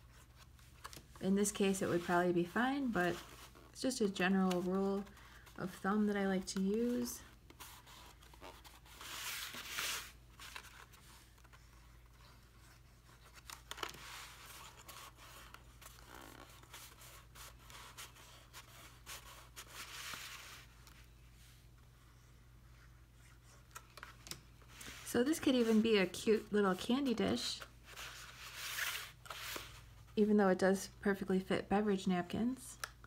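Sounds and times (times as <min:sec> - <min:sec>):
paper rustling: 0:00.0 - 0:21.1, 0:22.8 - 0:30.0.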